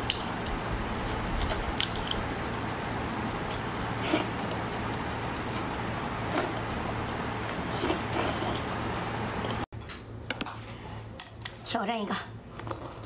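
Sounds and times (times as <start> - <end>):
steady hiss and hum: 0.0 - 13.0.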